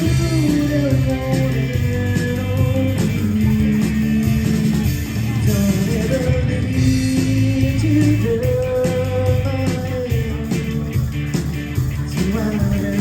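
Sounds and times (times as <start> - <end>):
bass guitar: 0.0 - 13.0
drums: 0.0 - 13.0
electric guitar: 0.0 - 13.0.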